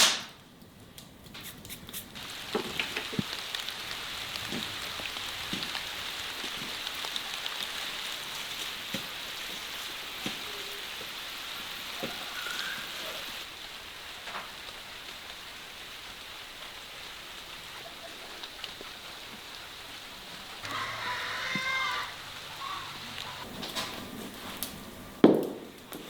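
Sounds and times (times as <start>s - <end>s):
steady rain: 0.4s - 26.0s.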